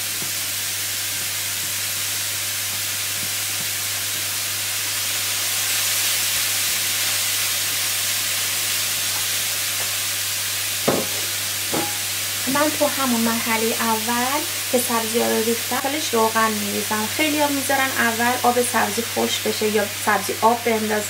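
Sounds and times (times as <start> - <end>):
herbs sizzling in frying pan: 0.0 - 21.0.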